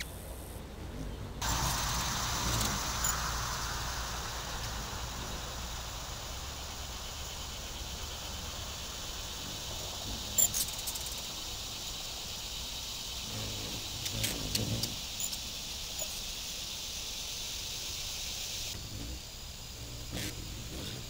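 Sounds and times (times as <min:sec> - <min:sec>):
low steady hum: 0:00.0 - 0:21.0
high-pitched insect drone: 0:01.4 - 0:21.0.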